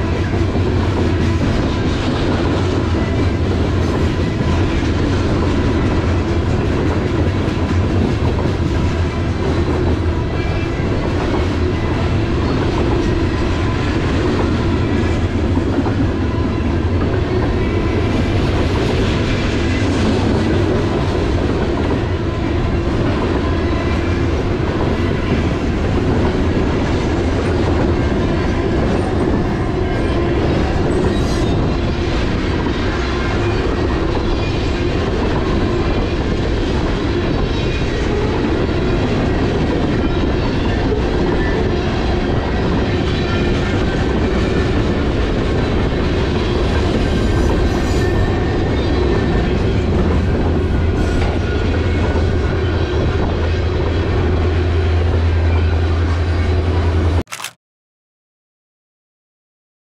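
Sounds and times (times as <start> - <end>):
freight train wheels rumbling on rails: 0.0 - 57.2.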